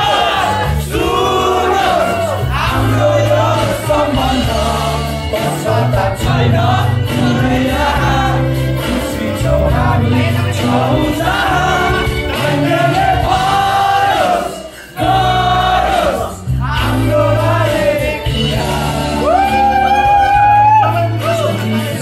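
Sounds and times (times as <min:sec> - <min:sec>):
dance song with singing: 0:00.0 - 0:22.0.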